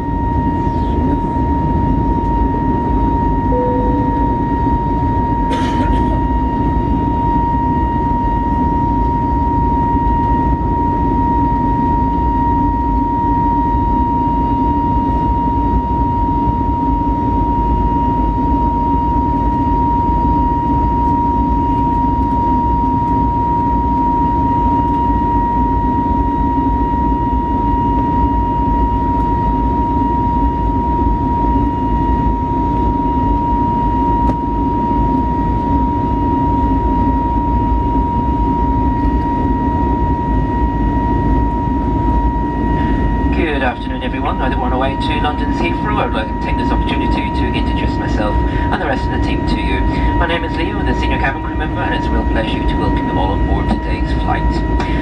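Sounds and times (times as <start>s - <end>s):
jet engine whine and rumble: 0.0s - 55.0s.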